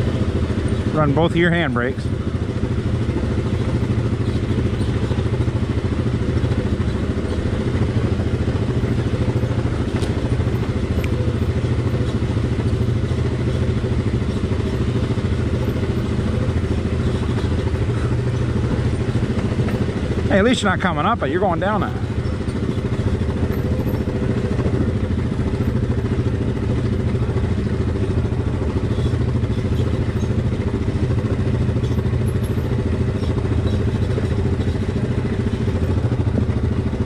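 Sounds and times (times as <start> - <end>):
quad engine running at low revs: 0.0 - 37.0.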